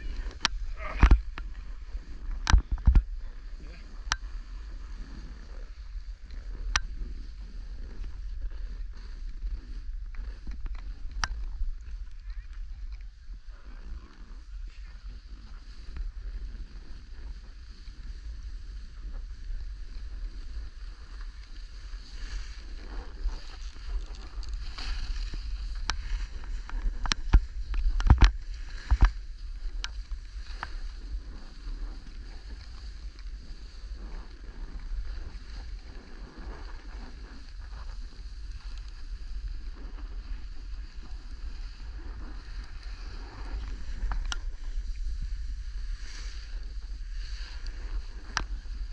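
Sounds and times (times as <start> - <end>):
wind and motion rumble: 0.0 - 48.9.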